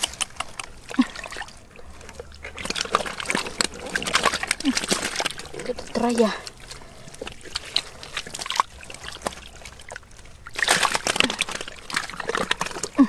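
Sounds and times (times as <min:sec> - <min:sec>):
muddy water sloshing: 0:00.0 - 0:13.0.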